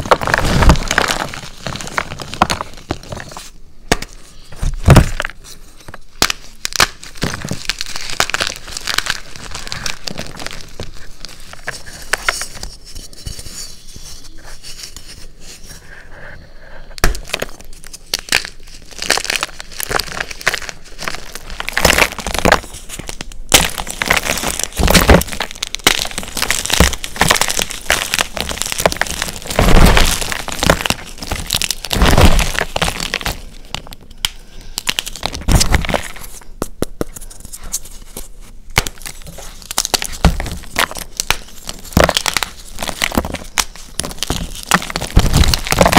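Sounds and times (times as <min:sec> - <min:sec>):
chalk block being crushed: 0:00.0 - 0:13.8, 0:17.0 - 0:45.9.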